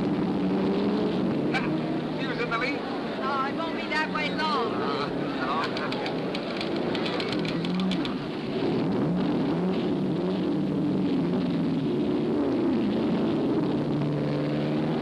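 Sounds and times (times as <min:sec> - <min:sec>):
race car engines: 0:00.0 - 0:15.0
steady noisy haze: 0:01.2 - 0:15.0.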